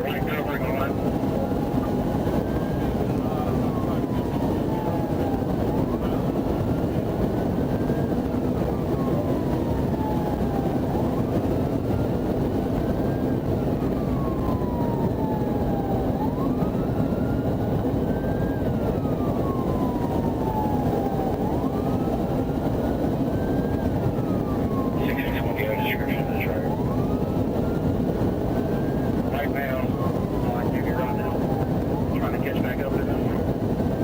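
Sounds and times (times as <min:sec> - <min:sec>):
police siren wailing: 0:00.0 - 0:34.0.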